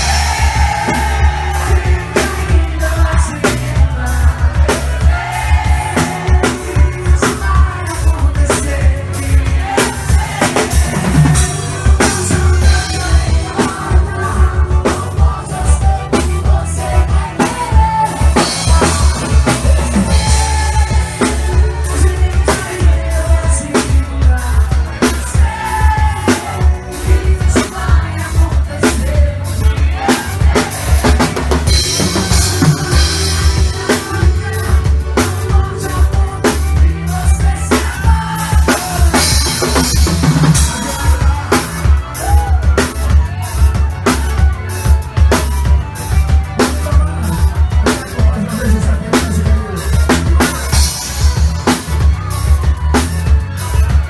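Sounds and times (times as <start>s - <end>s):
drum kit beat: 0.0s - 54.0s
live band playing: 0.0s - 54.0s
pulsing bass: 0.0s - 54.0s.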